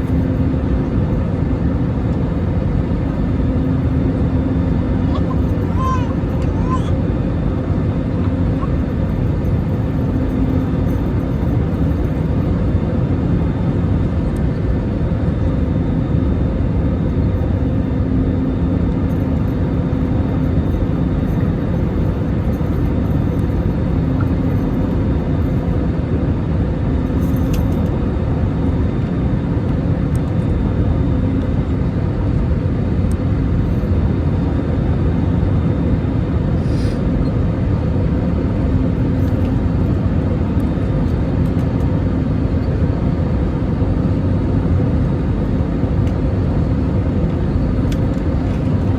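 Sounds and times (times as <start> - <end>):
airliner rumble: 0.0 - 48.9.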